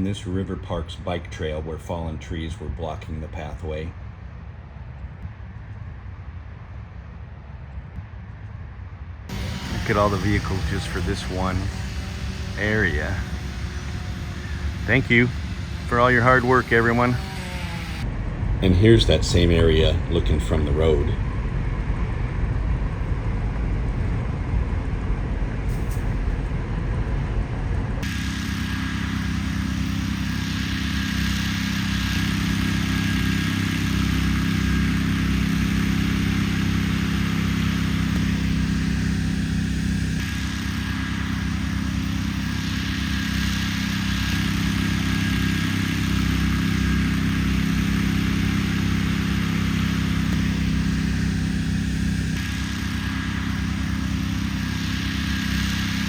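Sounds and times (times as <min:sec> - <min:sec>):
road noise hiss: 0:00.0 - 0:56.0
car engine humming: 0:09.3 - 0:56.0.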